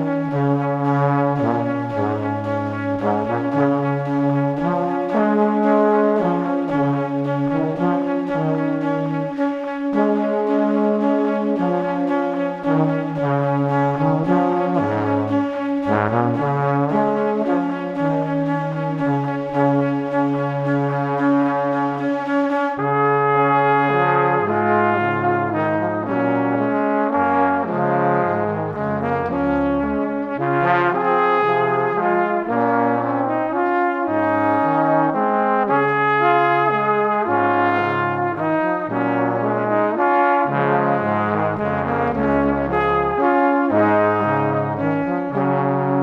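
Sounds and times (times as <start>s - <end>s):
brass-like background music: 0.0s - 46.0s.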